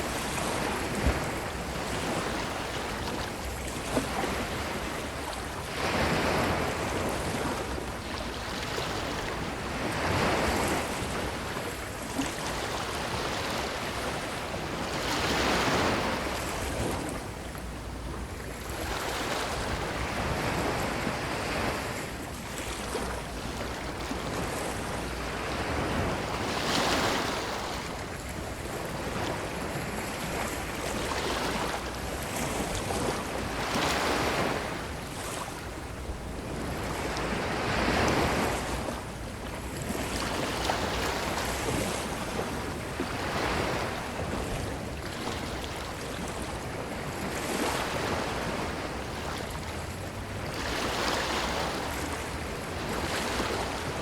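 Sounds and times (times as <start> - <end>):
ocean surf breaking on beach: 0.0 - 17.7, 18.7 - 54.0.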